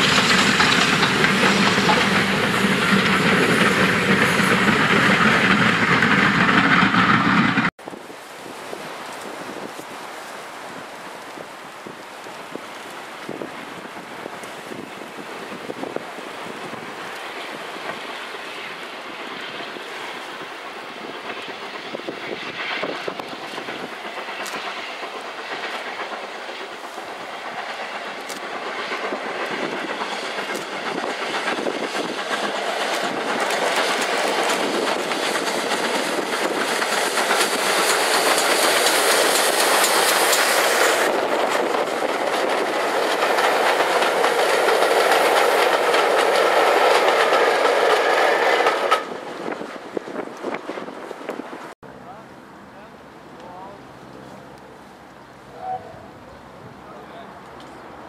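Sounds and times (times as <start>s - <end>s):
train wheels on rails: 0.0s - 51.8s
steam train passing: 0.0s - 58.0s.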